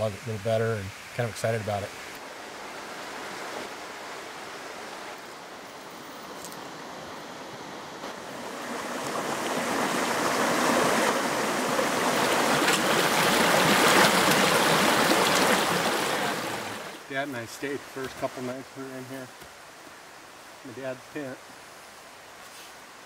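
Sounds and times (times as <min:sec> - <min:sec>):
creek running over stones: 0:00.0 - 0:23.0.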